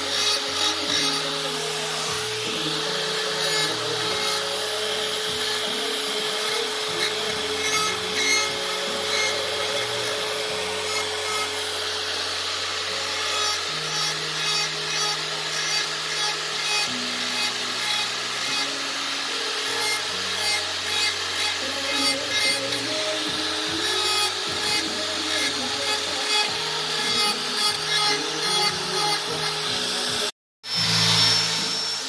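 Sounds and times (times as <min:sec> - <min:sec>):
rotary tool whining: 0:00.0 - 0:32.0.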